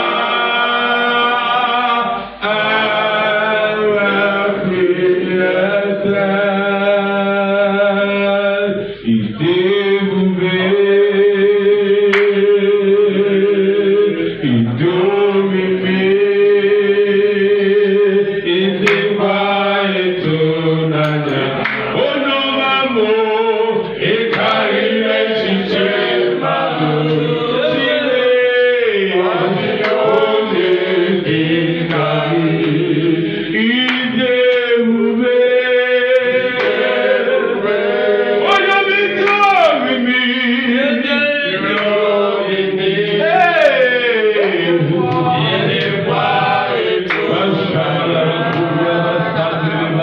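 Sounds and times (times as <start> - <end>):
man singing gospel song: 0.0 - 50.0.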